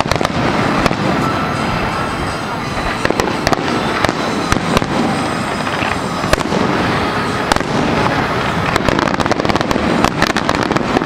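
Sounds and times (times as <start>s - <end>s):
fireworks bursting: 0.0s - 11.0s
sharp firework cracks: 0.0s - 11.0s.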